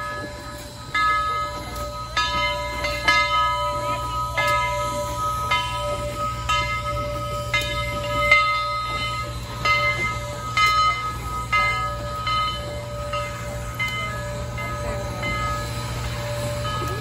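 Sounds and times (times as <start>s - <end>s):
steam locomotive bell ringing: 0.0s - 17.0s.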